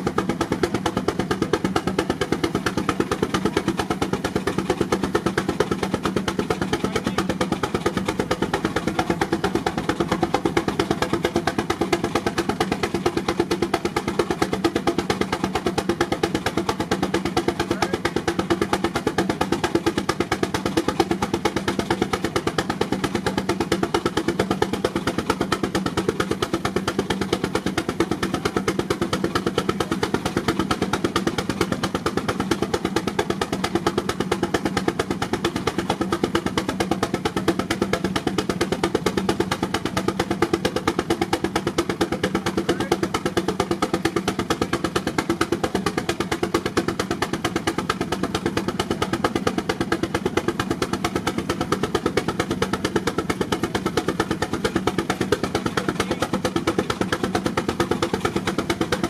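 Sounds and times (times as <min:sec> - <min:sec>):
steam engine exhaust beating: 0:00.0 - 0:59.0.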